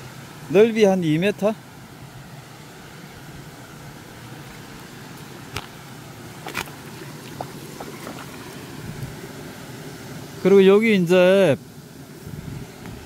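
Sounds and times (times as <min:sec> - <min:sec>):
stream flowing over rocks: 0:00.0 - 0:10.6.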